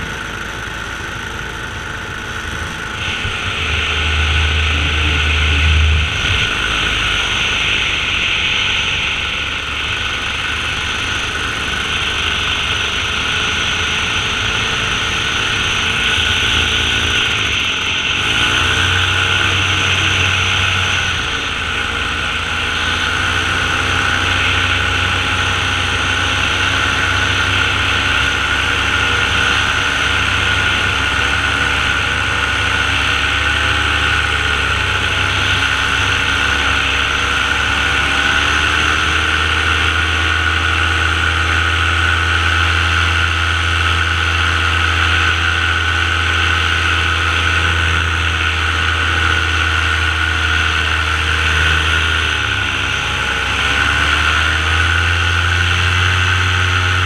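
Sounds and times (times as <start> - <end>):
small aircraft engine and propeller: 0.0 - 57.0.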